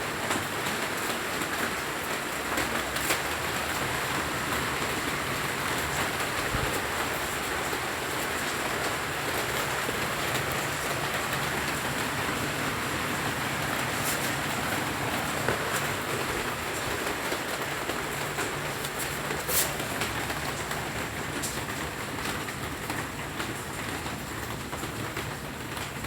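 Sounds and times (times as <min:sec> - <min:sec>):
raindrops ticking on surfaces: 0:00.0 - 0:26.0
steady rain hiss: 0:00.0 - 0:26.0.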